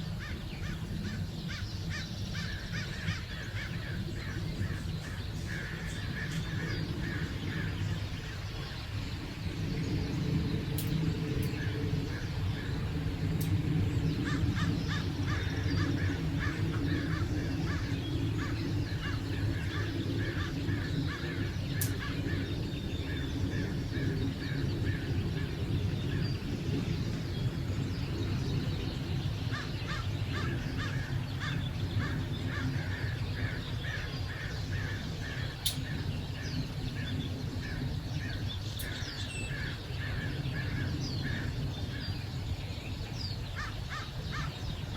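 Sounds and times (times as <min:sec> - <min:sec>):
birds calling: 0:00.0 - 0:44.9
rapid repeated bird calls: 0:00.0 - 0:44.9
steady low rumble: 0:00.0 - 0:44.9.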